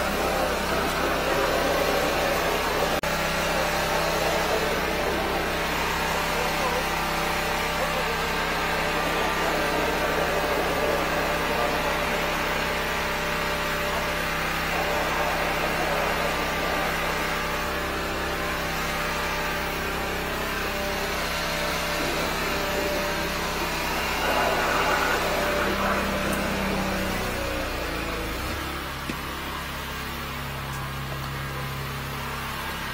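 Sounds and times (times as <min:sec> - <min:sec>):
hose jetting water: 0:00.0 - 0:29.2
engine running under load: 0:00.0 - 0:32.9.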